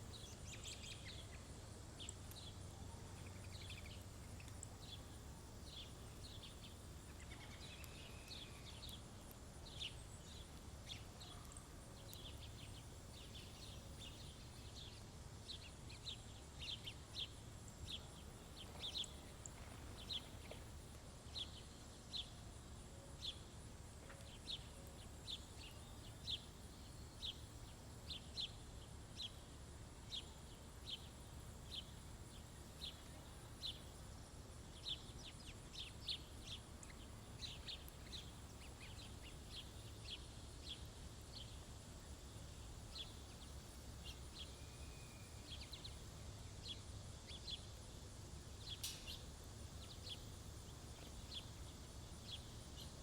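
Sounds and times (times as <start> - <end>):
small birds chirping: 0.0 - 34.1, 34.7 - 53.0.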